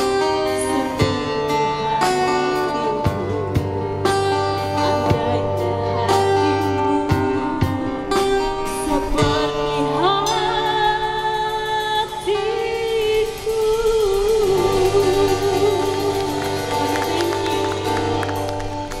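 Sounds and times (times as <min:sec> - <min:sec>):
guitar and drums: 0:00.0 - 0:19.0
woman singing: 0:00.0 - 0:19.0.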